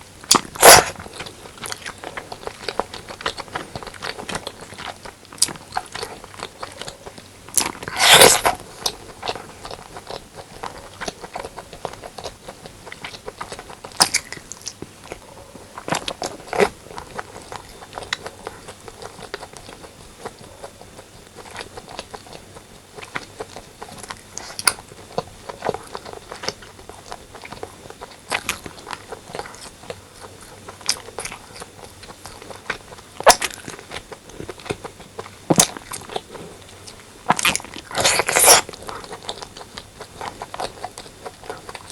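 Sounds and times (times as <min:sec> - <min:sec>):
close chewing and mouth sounds: 0:00.0 - 0:41.9.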